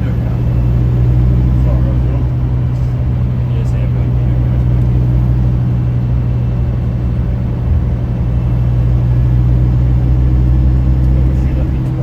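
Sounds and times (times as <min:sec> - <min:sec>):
bus diesel engine droning: 0:00.0 - 0:12.0.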